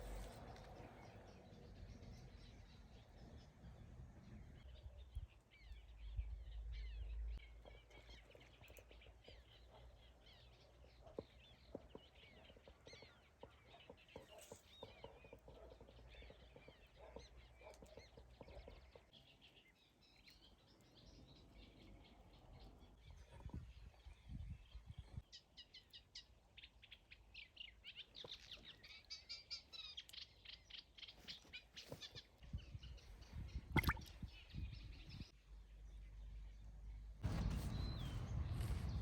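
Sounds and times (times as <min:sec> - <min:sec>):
small birds chirping and singing: 0:00.0 - 0:37.1.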